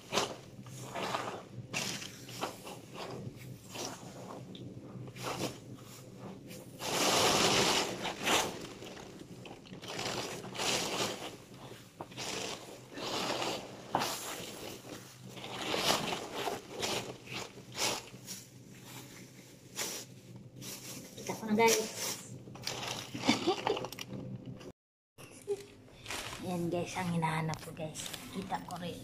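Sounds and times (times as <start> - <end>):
plastic garbage bag rustling: 0.0 - 24.2, 25.5 - 29.0.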